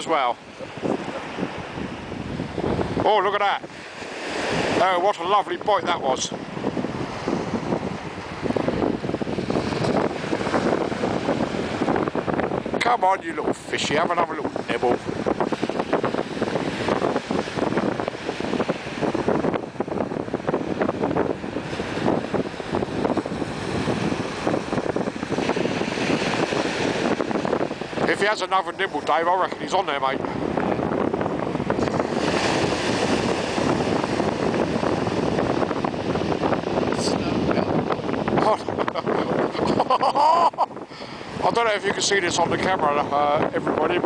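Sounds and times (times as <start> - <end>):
strong wind buffeting microphone: 0.0 - 44.0.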